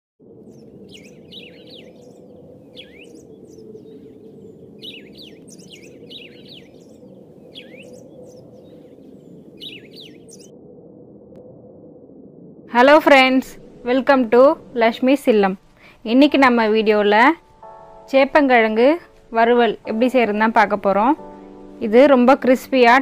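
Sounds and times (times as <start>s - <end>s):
birds chirping: 0.4s - 10.6s, 12.8s - 23.0s.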